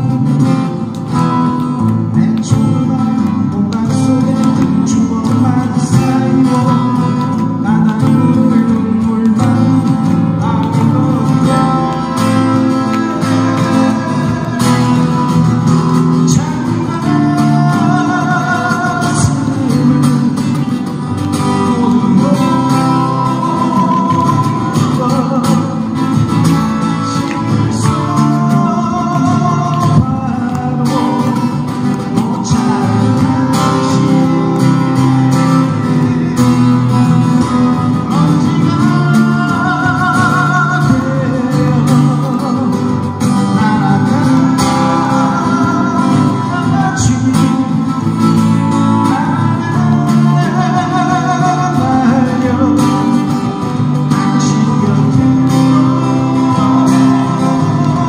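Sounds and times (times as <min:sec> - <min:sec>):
acoustic guitars strummed: 0:00.0 - 0:58.0
man singing: 0:00.0 - 0:58.0.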